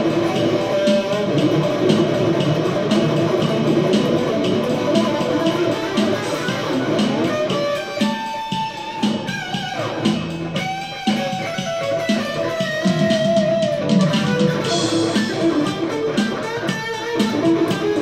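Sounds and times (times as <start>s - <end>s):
electric guitar lead lines: 0.0s - 18.0s.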